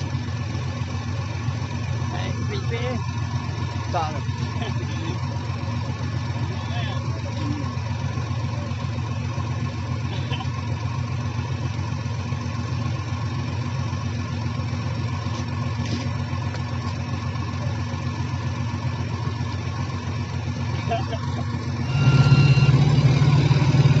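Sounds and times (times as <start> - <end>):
vehicle engine running steadily: 0.0 - 24.0.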